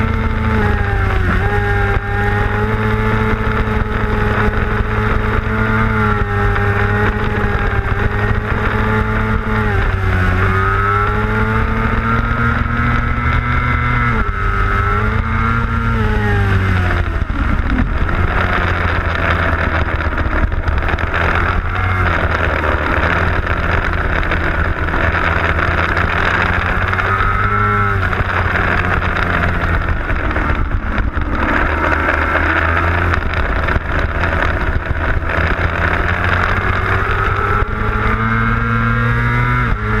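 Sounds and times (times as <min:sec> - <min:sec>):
motorcycle engine at racing revs: 0:00.0 - 0:40.0
wind rush on microphone: 0:00.0 - 0:40.0.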